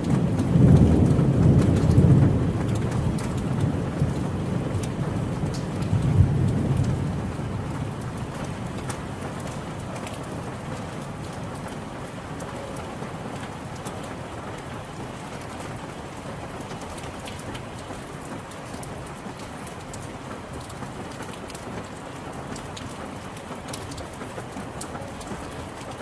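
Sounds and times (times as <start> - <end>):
raindrop ticks: 0.0 - 26.0.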